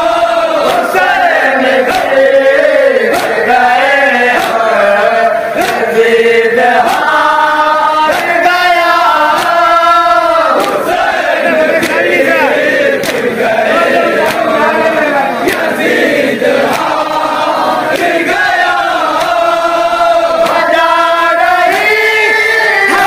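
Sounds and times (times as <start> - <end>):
lead reciter through microphone: 0.0 - 23.0
men chanting a lament in unison: 0.0 - 23.0
chest-beating slaps: 0.6 - 4.8, 5.5 - 22.0.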